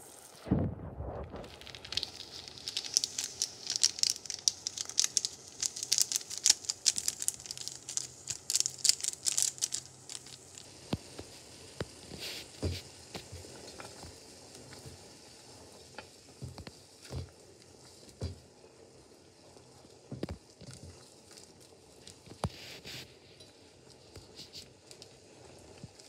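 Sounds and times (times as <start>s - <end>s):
noodles boiling with popping bubbles: 0.0s - 26.0s.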